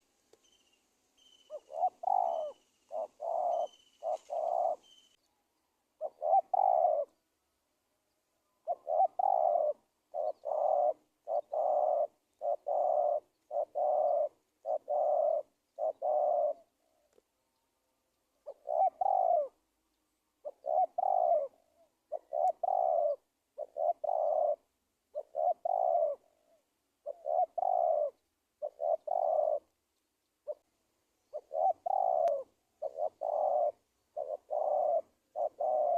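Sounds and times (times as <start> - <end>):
dove cooing: 0.0 - 5.2, 6.0 - 7.2, 8.6 - 17.2, 18.3 - 19.7, 20.4 - 29.8, 30.4 - 30.7, 31.3 - 35.9
small bird chirping faintly: 0.0 - 35.9.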